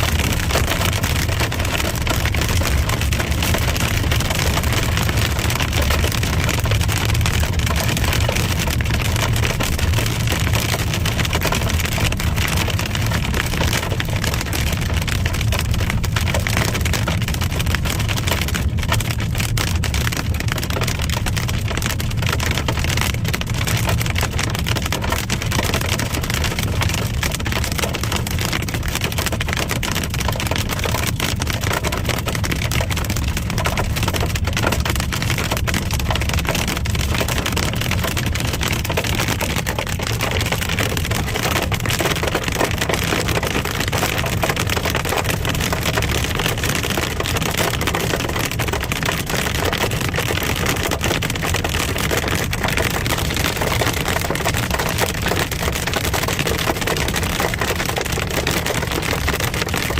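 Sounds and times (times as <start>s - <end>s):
hail and rain pelting a car: 0.0s - 59.9s.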